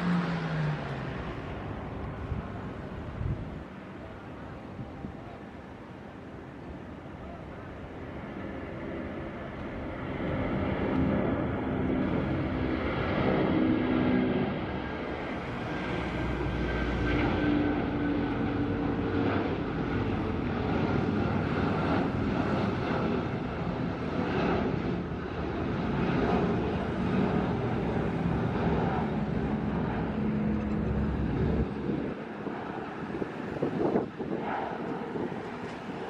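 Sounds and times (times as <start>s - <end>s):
jet engines climbing: 0.0s - 36.0s.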